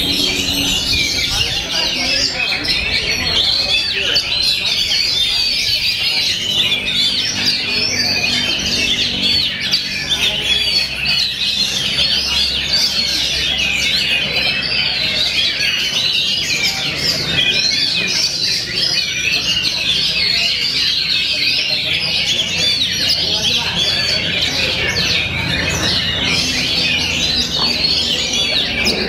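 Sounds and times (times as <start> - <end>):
birds singing chirps and trills: 0.0 - 29.0.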